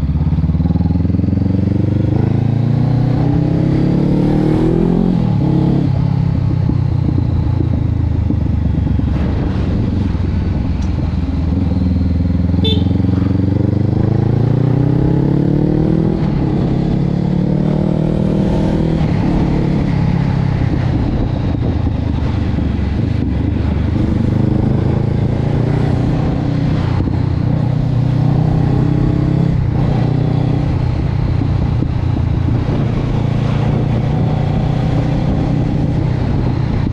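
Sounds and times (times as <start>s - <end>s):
motorcycle engine running: 0.0s - 4.3s, 5.1s - 36.9s.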